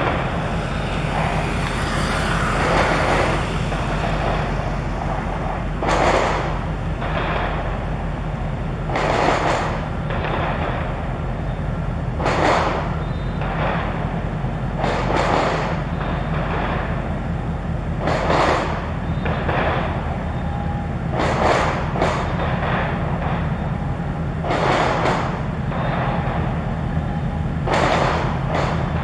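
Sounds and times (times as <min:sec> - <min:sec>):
rushing noise: 0:00.0 - 0:29.0
ship engines droning: 0:00.0 - 0:29.0.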